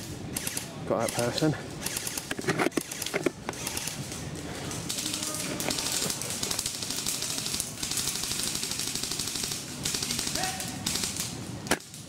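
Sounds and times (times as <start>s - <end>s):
airsoft guns firing full-auto: 0.4s - 4.0s, 4.9s - 11.9s.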